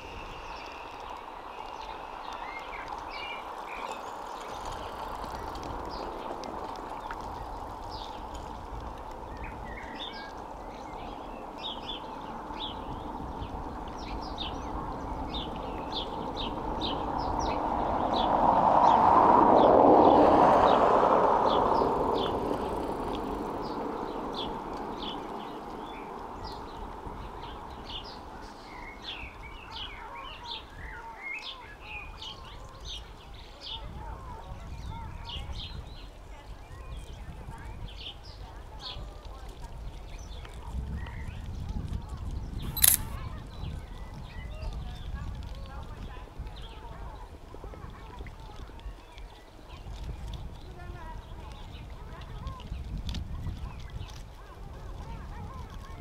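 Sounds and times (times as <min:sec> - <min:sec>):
small birds chirping: 0:00.0 - 0:19.0, 0:22.2 - 0:56.0.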